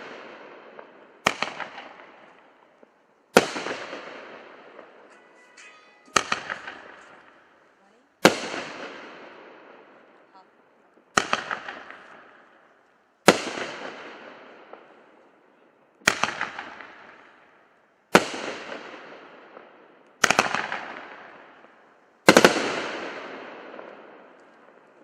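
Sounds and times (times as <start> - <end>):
firework bangs: 0.0 - 10.2, 11.0 - 15.0, 16.0 - 25.0.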